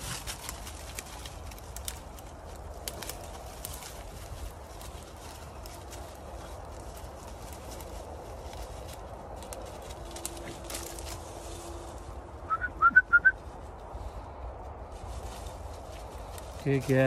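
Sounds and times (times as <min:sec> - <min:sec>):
sticks rustling and crackling: 0:00.0 - 0:17.0.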